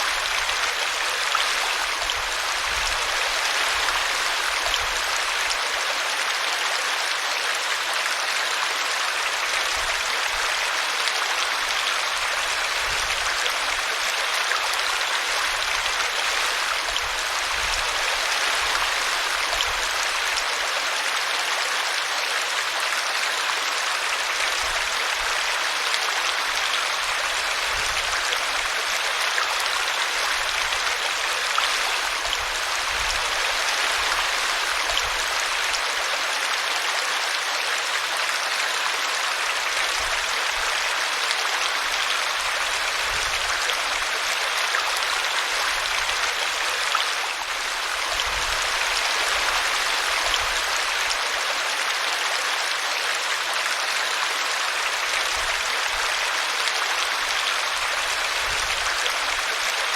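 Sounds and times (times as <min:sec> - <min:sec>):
brook babbling: 0:00.0 - 0:59.9.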